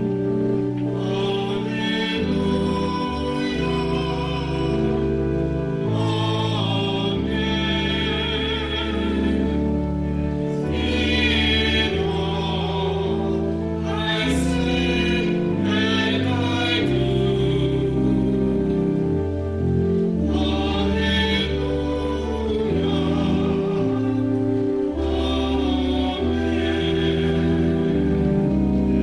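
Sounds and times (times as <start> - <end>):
choir singing a hymn: 0.0 - 29.0
organ chords: 0.0 - 29.0.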